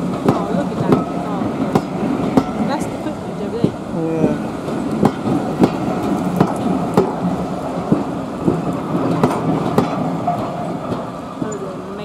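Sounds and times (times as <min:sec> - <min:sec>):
train rumble: 0:00.0 - 0:12.0
train wheels clicking over rail joints: 0:00.0 - 0:12.0.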